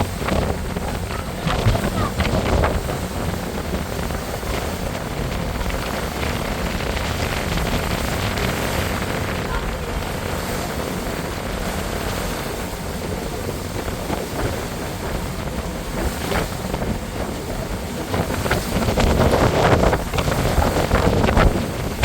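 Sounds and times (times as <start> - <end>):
boat engine rumble: 0.0 - 22.0
water rushing past hull: 0.0 - 22.0
wind buffeting microphone: 0.0 - 22.0.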